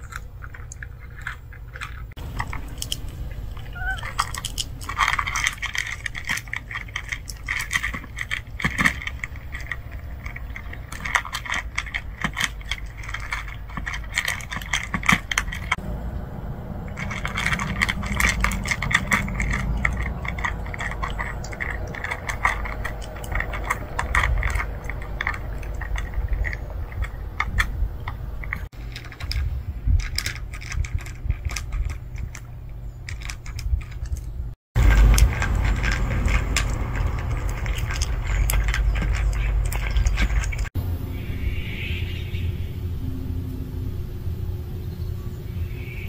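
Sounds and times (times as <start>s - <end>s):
cats crunching dry kibble: 0.0s - 16.0s, 16.6s - 40.8s
low rumble: 0.0s - 46.0s.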